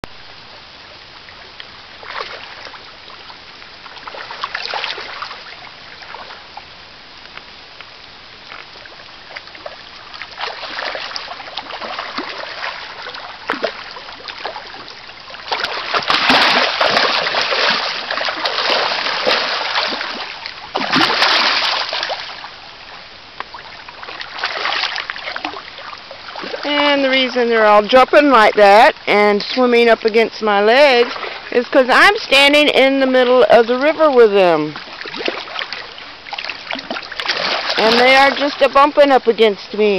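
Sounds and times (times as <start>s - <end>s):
stream water running: 0.0s - 39.9s
fish splashing and thrashing: 2.0s - 6.4s, 8.5s - 39.9s.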